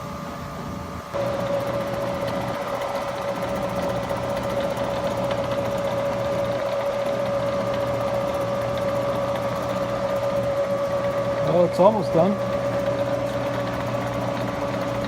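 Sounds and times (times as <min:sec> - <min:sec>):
machine humming with flutter: 0:01.1 - 0:15.0.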